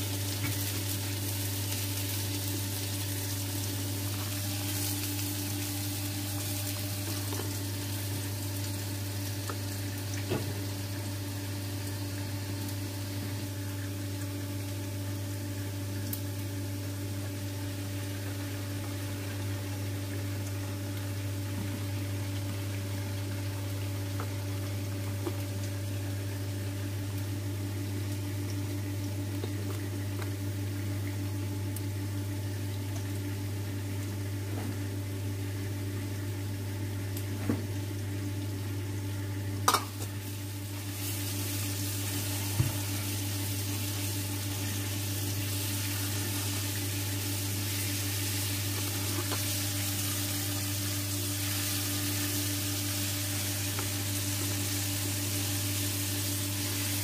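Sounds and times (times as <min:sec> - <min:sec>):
food sizzling in a frying pan: 0:00.0 - 0:33.2, 0:39.6 - 0:57.0.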